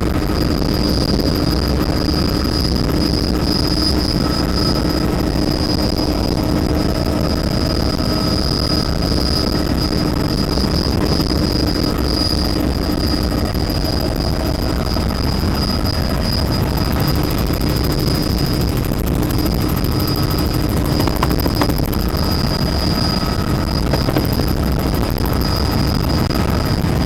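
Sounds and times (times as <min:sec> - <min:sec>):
helicopter engine and rotor rumble: 0:00.0 - 0:27.0.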